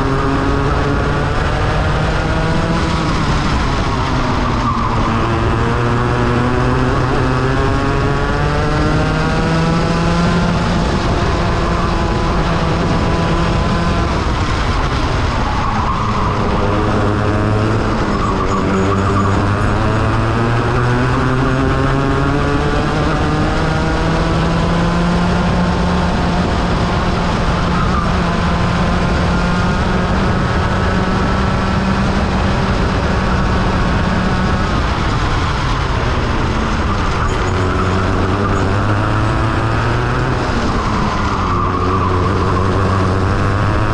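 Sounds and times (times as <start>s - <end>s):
kart engine running hard: 0.0s - 43.9s.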